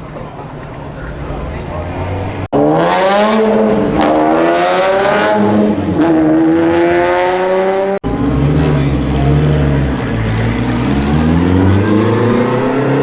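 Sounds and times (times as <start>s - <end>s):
race car engine accelerating: 1.0s - 13.0s.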